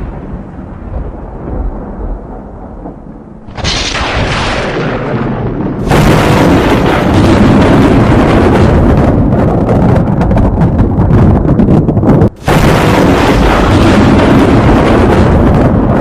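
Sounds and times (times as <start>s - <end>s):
lightning crack: 0.0s - 16.0s
thunder crash: 0.0s - 16.0s
thunder rumbling: 0.0s - 16.0s.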